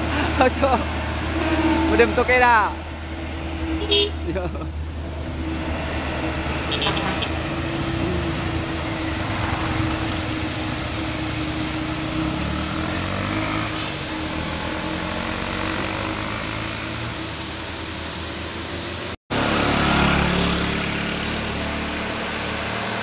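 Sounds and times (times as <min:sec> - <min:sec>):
truck engine labouring uphill: 0:00.0 - 0:23.0.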